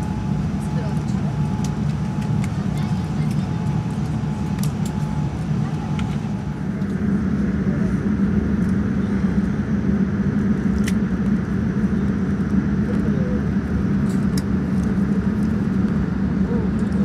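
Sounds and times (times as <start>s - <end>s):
airplane cabin hum: 0.0s - 17.0s.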